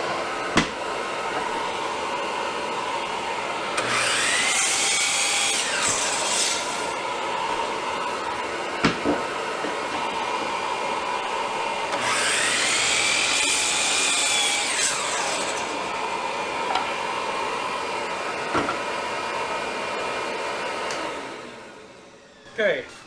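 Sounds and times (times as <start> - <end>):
power tool cutting wood: 0.0 - 23.0.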